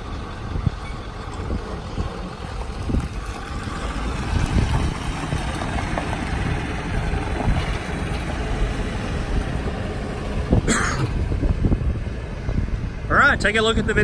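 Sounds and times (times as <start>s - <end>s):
truck engine driving off: 0.0s - 14.0s.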